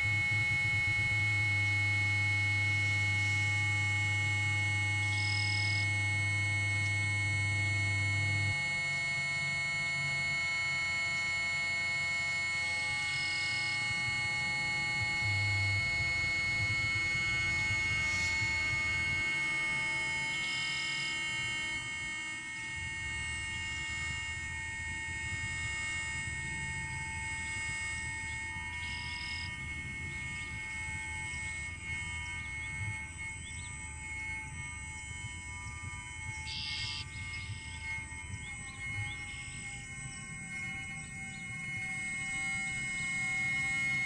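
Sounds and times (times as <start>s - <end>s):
electronic drone tones: 0.0s - 44.0s.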